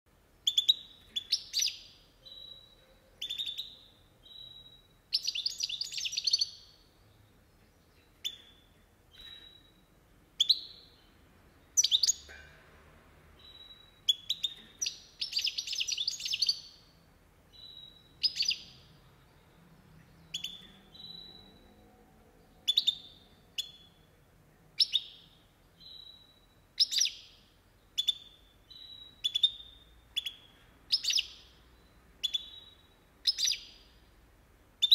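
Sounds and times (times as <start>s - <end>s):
bird calling and singing: 0.4s - 12.4s, 13.4s - 24.1s, 24.8s - 34.2s.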